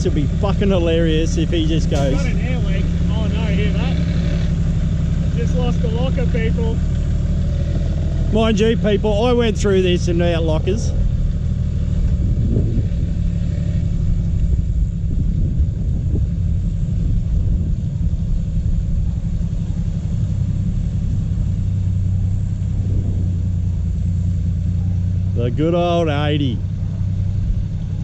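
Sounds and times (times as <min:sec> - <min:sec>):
engine running low drone: 0:00.0 - 0:28.0.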